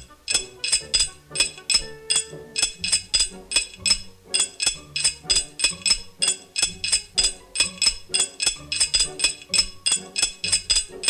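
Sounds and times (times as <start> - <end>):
small metal objects clinking: 0.0 - 11.0.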